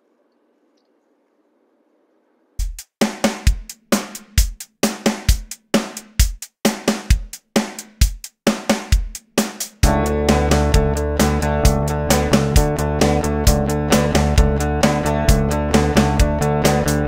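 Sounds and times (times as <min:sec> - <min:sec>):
drum kit beat: 0:02.6 - 0:17.0.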